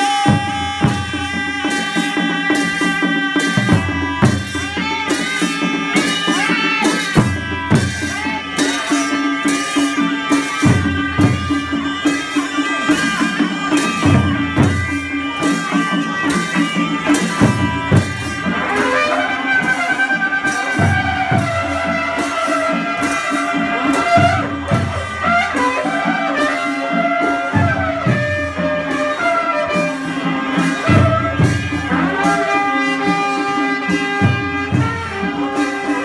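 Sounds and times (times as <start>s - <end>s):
reedy wind instrument melody: 0.0s - 36.0s
two-headed drum beat: 0.0s - 36.0s.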